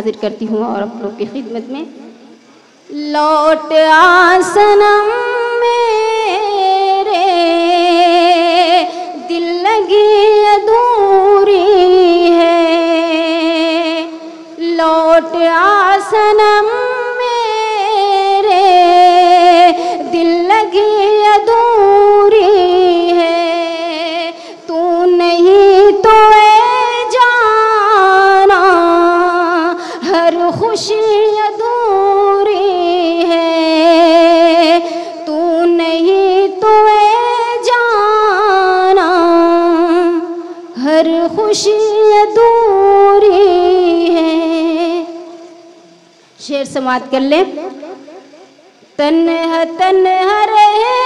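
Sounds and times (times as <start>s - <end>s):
woman singing unaccompanied: 0.0s - 2.1s, 2.8s - 51.0s.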